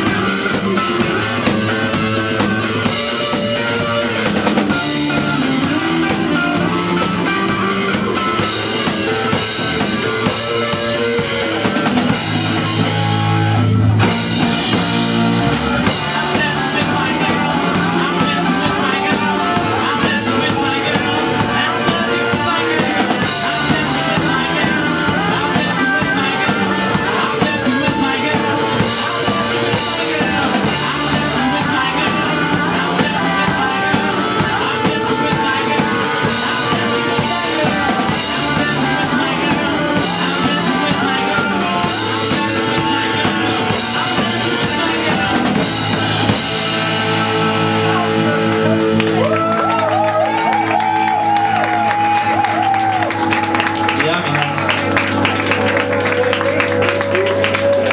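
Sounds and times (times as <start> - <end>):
loud drum kit: 0.0 - 57.9
rock band playing live: 0.0 - 57.9.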